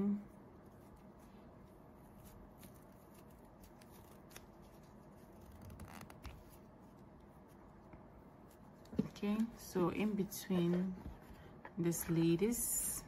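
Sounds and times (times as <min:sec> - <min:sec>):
soft rustles of yarn: 0:00.0 - 0:13.0.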